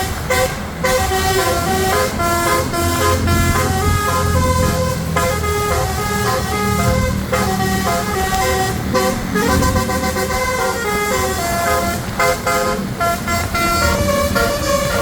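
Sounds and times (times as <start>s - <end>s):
bus engine rumble: 0.0s - 15.0s
musical air horn melody: 0.0s - 15.0s.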